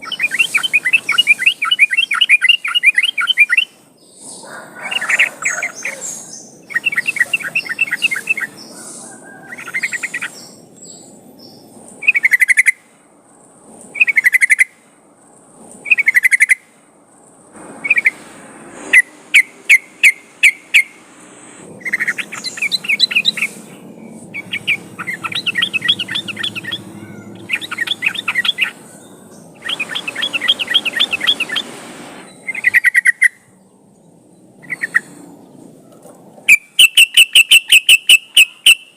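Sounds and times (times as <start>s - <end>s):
bulbul song: 0.0s - 12.9s, 17.6s - 33.5s, 36.5s - 38.9s.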